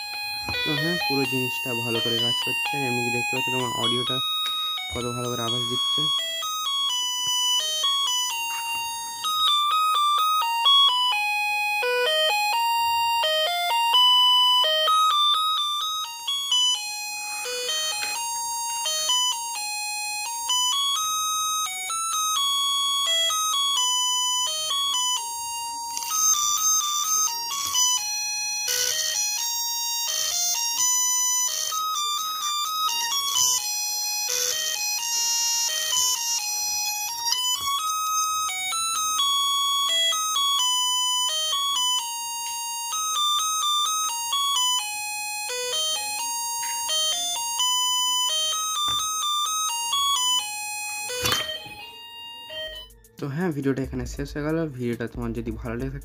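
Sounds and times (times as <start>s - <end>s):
buzzy electronic doorbell tune: 0.0s - 55.5s.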